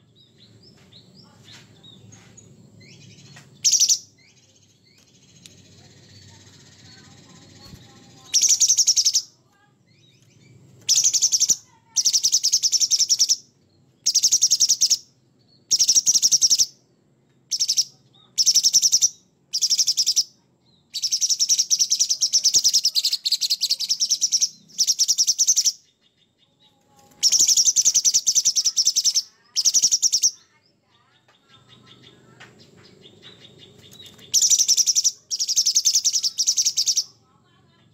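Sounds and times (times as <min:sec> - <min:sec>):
bird chattering song: 0:00.0 - 0:37.9.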